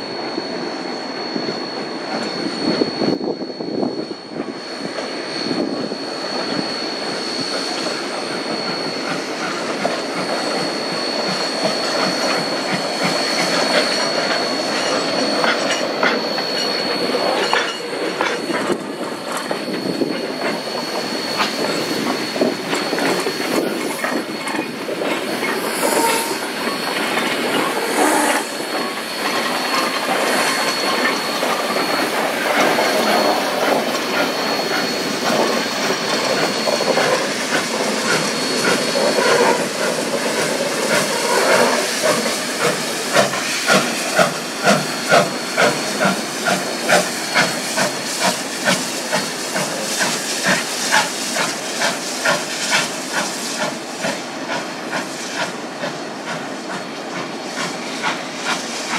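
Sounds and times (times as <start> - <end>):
thin high whine: 0.0 - 47.7
steam locomotive rolling: 0.0 - 58.9
steam hissing: 0.1 - 58.9.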